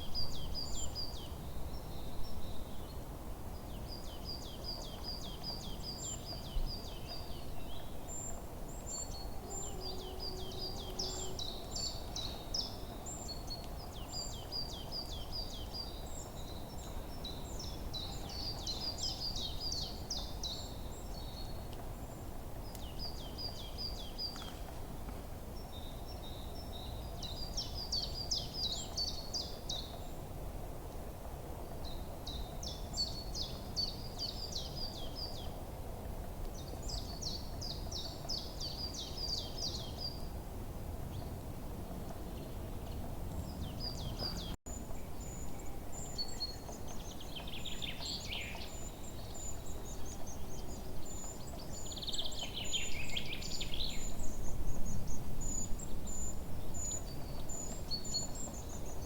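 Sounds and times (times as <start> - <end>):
songbirds singing: 0.0 - 30.3, 31.8 - 35.6, 36.4 - 40.4, 42.0 - 59.0.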